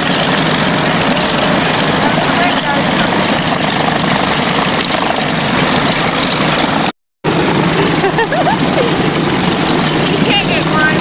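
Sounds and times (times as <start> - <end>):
other aircraft engines: 0.0 - 11.0
propeller plane engine idling: 0.0 - 11.0.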